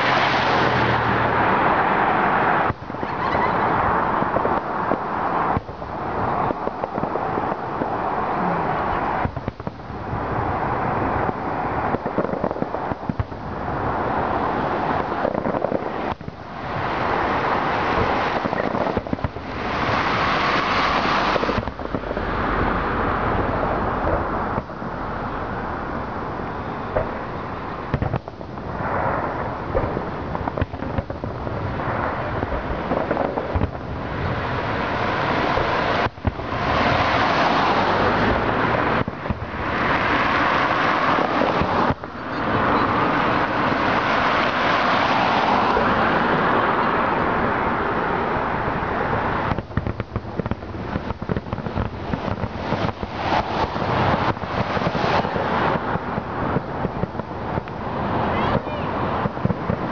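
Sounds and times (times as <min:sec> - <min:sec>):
fireworks booming and crackling: 0:00.0 - 0:59.9.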